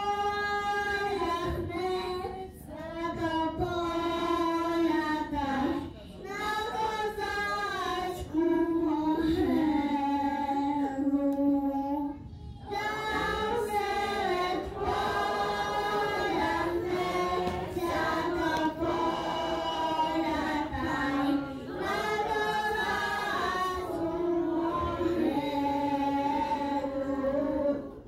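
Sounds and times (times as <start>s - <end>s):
choir singing: 0.0s - 10.6s, 12.6s - 28.0s.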